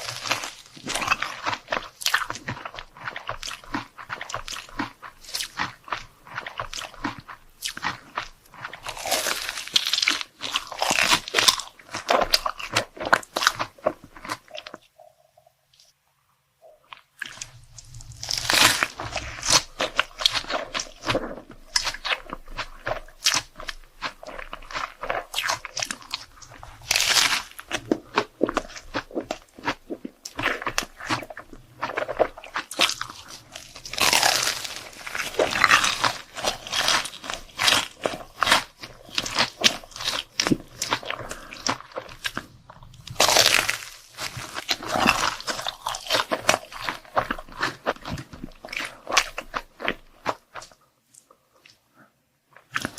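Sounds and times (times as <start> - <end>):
crunchy chewing of food: 0.0 - 16.0, 16.6 - 52.9.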